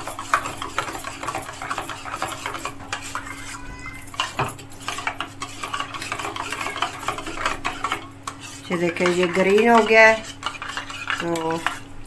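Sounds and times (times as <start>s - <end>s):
metal spoon scraping a bowl: 0.0s - 3.3s, 4.1s - 11.9s.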